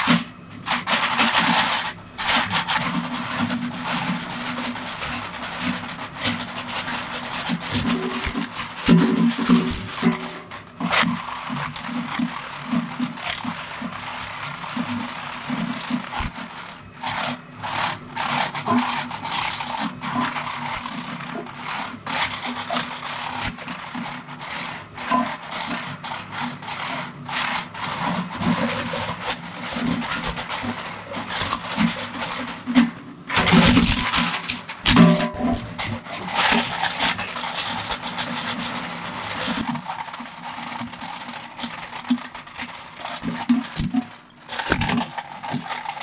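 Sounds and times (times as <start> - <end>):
shredder crunching plastic: 0.0 - 46.0.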